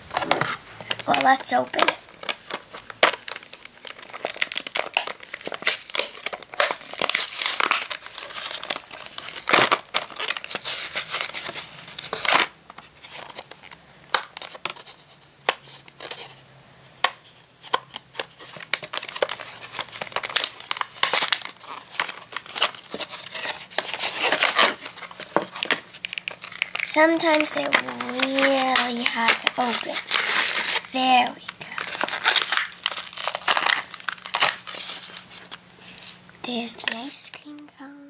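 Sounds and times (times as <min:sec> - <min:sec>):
cardboard tearing: 0:00.0 - 0:15.0, 0:17.6 - 0:36.2
plastic packaging crinkling: 0:00.0 - 0:16.4, 0:17.0 - 0:37.6.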